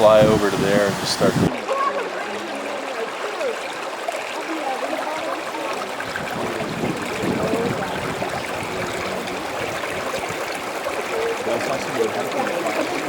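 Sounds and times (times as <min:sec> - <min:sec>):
waterfall running and gurgling: 0:00.0 - 0:13.0.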